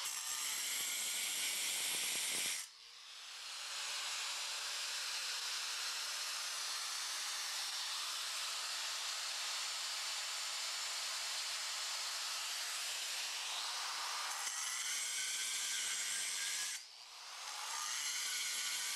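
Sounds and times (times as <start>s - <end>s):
angle grinder running: 0.0s - 18.9s.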